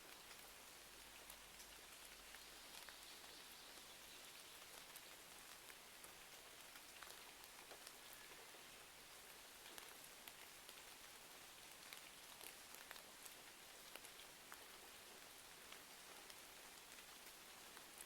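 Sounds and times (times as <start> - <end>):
faint rain hiss: 0.0 - 18.0
rain ticks and crackles: 0.0 - 18.0.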